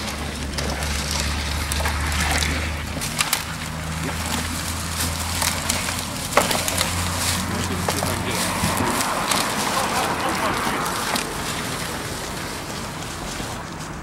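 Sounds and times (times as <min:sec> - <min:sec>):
cart wheels on leaves: 0:00.0 - 0:14.0
dry leaves crunching underfoot: 0:00.0 - 0:14.0.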